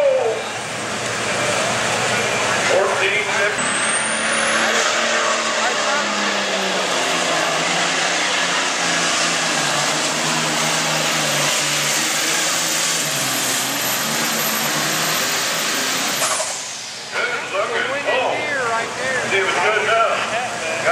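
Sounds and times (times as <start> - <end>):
tractor engine at full throttle: 0.0 - 20.9.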